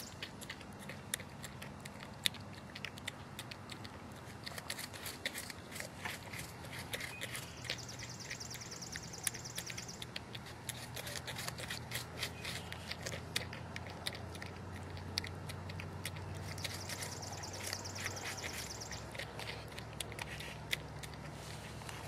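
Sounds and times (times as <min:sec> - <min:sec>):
porcupine gnawing and chewing: 0:00.0 - 0:22.0
steady low hum: 0:00.0 - 0:22.0.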